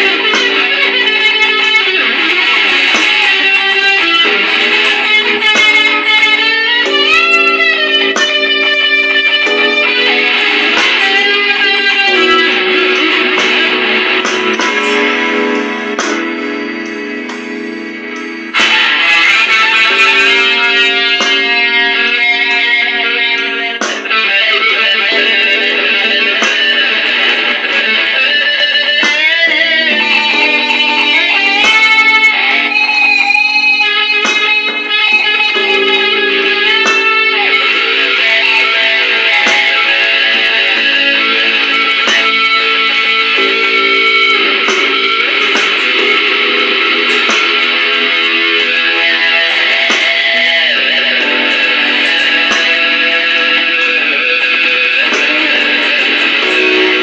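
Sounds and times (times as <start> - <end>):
electric guitar blues: 0.0 - 57.0.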